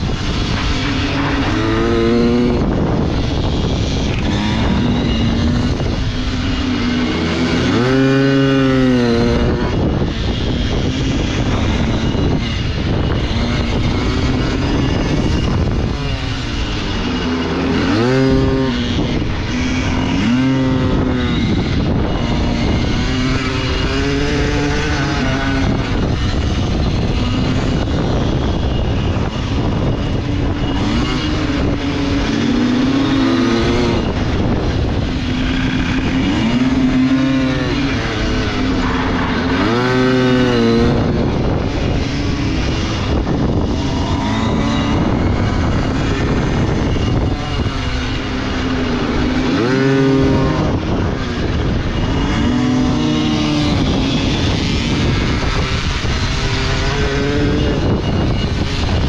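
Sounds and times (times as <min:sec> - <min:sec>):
pit bike engine revving: 0:00.0 - 0:59.0.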